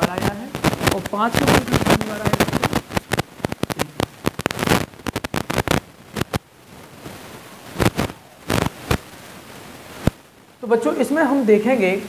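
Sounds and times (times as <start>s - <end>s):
sharp clicks and crackles: 0.0s - 10.6s
faint hiss: 0.0s - 12.0s.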